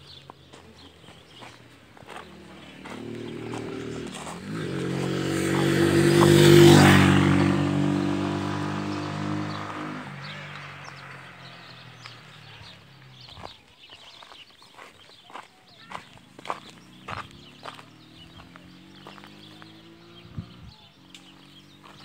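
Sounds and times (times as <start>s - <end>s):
vehicle passing on road: 0.1s - 13.6s, 16.0s - 22.0s.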